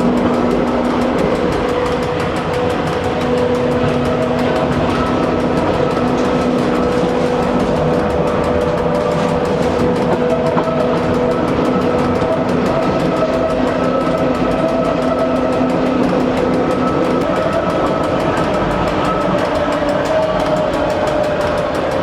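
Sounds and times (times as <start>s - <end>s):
train running noise: 0.0s - 22.0s
train whine: 0.0s - 22.0s.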